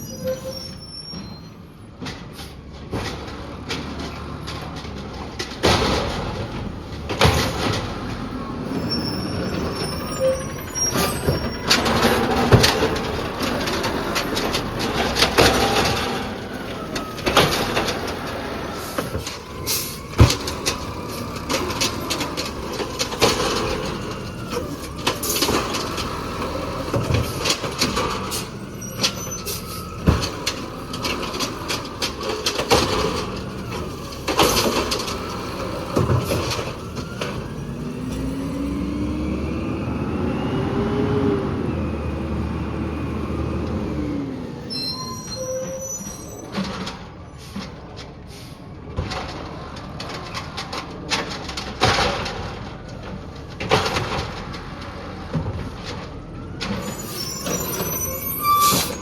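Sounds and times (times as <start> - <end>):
garbage truck clanks and knocks: 0.0 - 40.1, 41.9 - 59.0.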